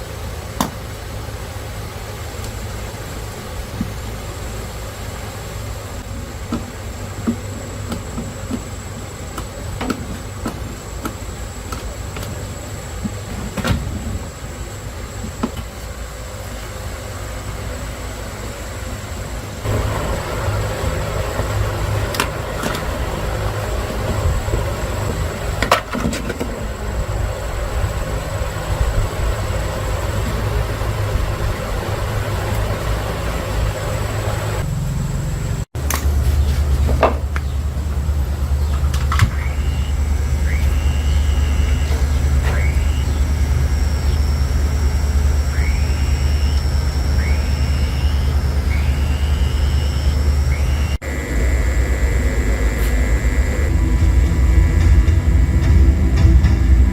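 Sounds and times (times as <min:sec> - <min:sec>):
machine humming: 0:00.0 - 0:56.9.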